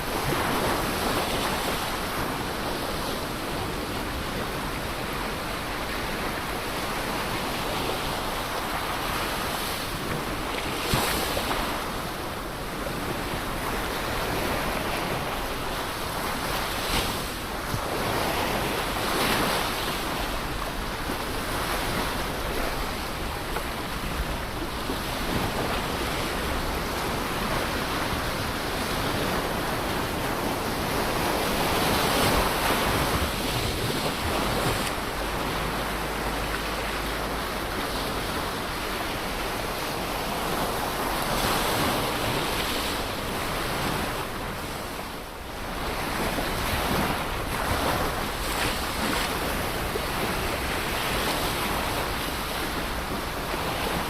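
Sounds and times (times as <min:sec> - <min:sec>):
ocean waves breaking on shore: 0:00.0 - 0:54.0
wind noise on microphone: 0:00.0 - 0:54.0.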